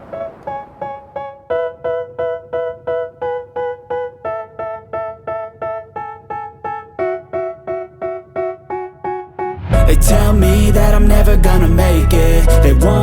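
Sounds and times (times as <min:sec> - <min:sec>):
repeating electric piano notes: 0:00.0 - 0:13.0.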